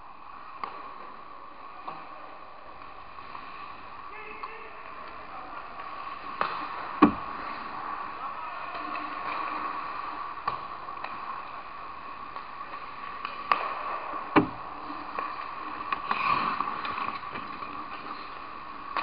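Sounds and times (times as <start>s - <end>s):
steady rink hum: 0.0s - 19.0s
skates scraping ice: 0.1s - 19.0s
hockey sticks and puck clacking: 0.3s - 19.0s.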